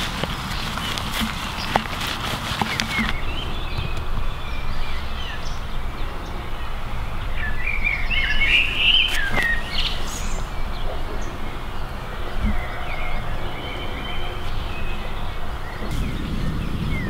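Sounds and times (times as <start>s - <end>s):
small birds chirping: 0.0s - 17.0s
low rumble: 3.1s - 17.0s.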